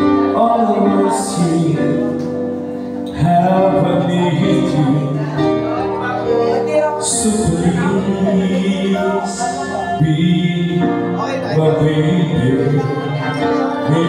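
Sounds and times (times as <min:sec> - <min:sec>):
instrumental music: 0:00.0 - 0:14.0
man singing through microphone: 0:00.0 - 0:14.0.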